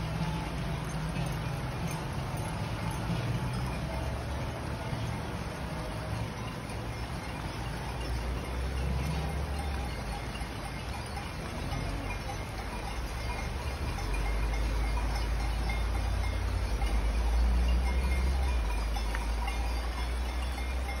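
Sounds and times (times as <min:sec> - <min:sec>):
cowbells ringing: 0:00.0 - 0:21.0.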